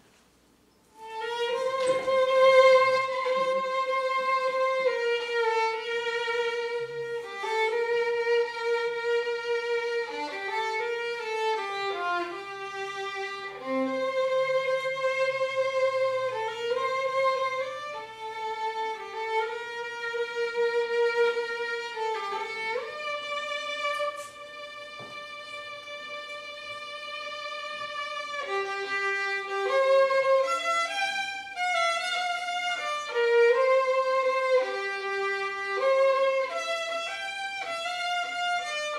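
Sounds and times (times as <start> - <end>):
solo violin slow melody: 0.9 - 38.9.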